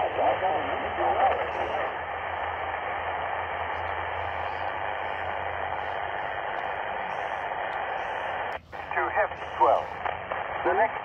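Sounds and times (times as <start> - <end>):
low hum: 0.0 - 11.0
radio hiss and static: 0.0 - 11.0.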